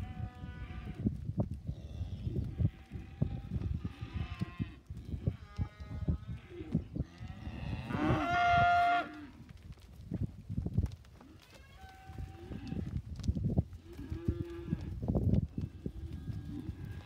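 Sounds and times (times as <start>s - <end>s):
hooves thudding on dirt: 0.0s - 17.0s.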